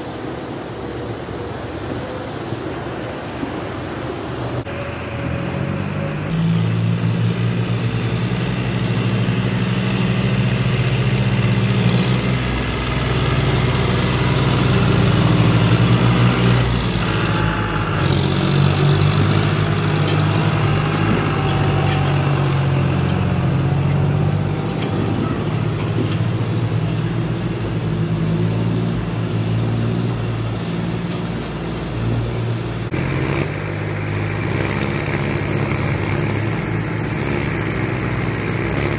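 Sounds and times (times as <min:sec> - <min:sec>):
tractor diesel engines labouring: 0:00.0 - 0:38.9.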